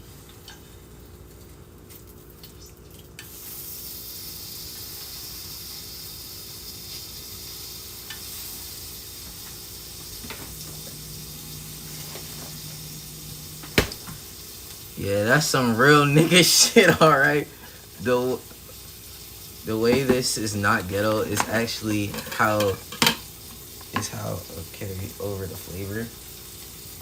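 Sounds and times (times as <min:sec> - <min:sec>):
stir-fry sizzling in a frying pan: 0:03.2 - 0:27.0.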